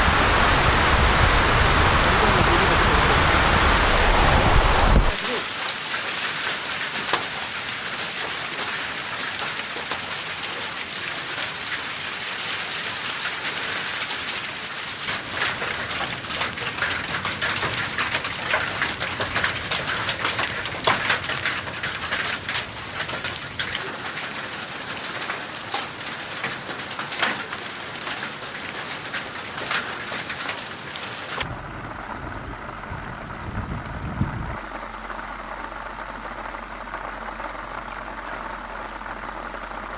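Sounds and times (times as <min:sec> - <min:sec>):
heavy rain falling: 0:00.0 - 0:39.9
rushing water: 0:00.0 - 0:39.9.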